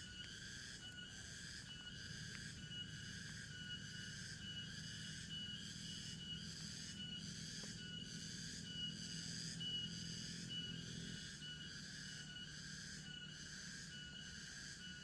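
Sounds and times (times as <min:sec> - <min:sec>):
insects pulsing chorus: 0:00.0 - 0:15.0.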